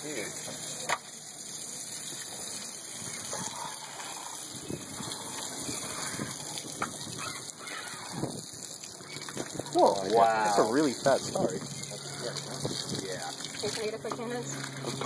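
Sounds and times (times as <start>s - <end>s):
water gushing from hose: 0.0s - 15.0s.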